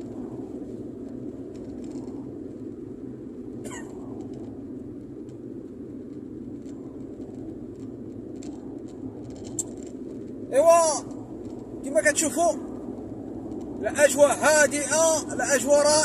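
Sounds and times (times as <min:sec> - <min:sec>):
car driving on paved road: 0:00.0 - 0:16.0.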